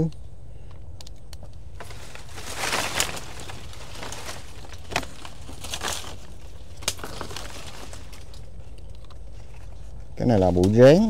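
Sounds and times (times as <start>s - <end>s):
steady low rumble: 0.0s - 11.0s
twigs and leaves crunching: 0.7s - 11.0s.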